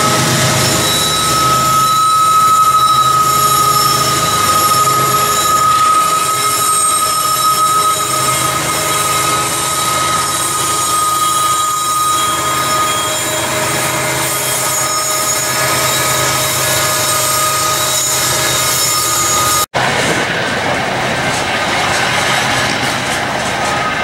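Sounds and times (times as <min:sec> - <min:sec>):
high-pitched wheel squeal: 0:00.0 - 0:19.7
freight train rolling past: 0:00.0 - 0:24.0.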